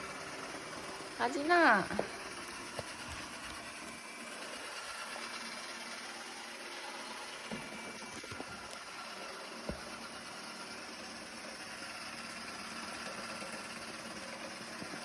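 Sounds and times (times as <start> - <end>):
robot vacuum motor whir: 0.0 - 15.0.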